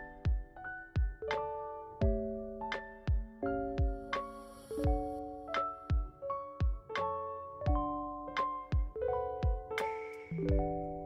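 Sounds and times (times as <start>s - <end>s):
slow keyboard chords: 0.0s - 11.0s.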